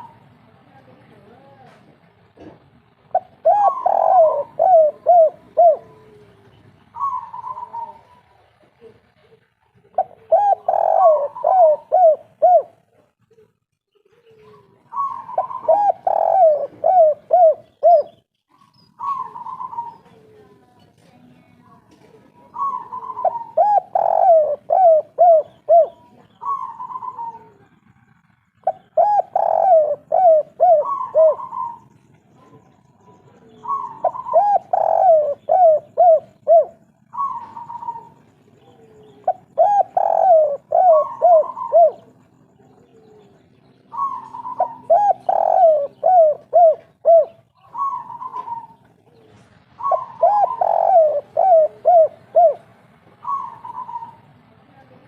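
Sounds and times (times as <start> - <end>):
doves cooing: 0.0 - 0.5, 2.4 - 20.7, 21.8 - 55.0.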